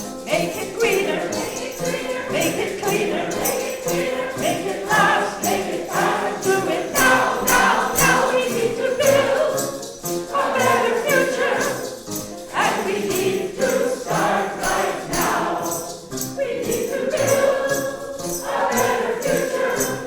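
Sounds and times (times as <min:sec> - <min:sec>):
choir and congregation singing: 0:00.0 - 0:20.0
hand percussion beat: 0:00.0 - 0:20.0.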